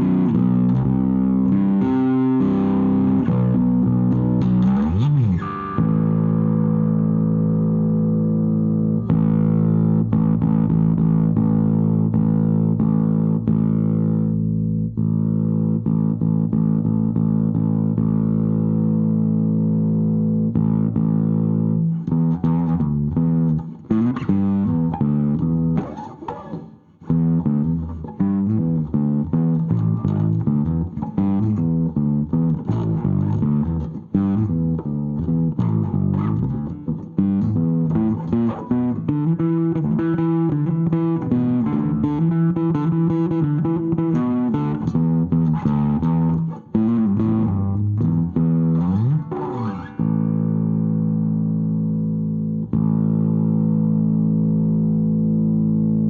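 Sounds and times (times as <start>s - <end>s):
overdriven bass guitar: 0.0s - 56.0s.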